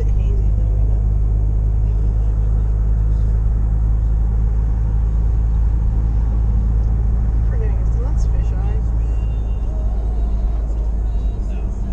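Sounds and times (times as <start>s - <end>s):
car road and engine rumble: 0.0s - 11.9s.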